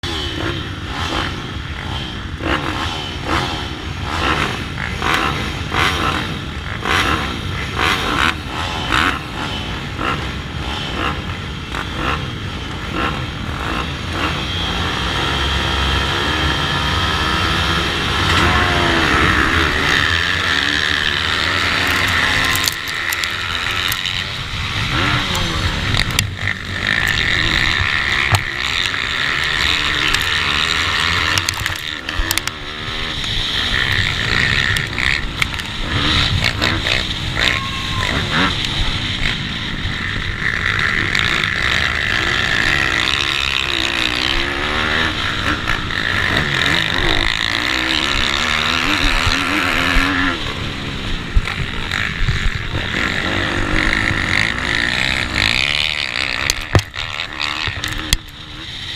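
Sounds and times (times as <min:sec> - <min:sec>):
small motorbike engines racing: 0:00.0 - 0:58.9.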